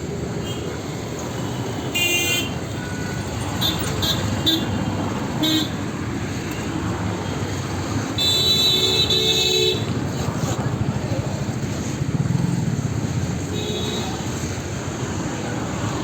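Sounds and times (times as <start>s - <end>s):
rumble of traffic: 0.0s - 16.0s.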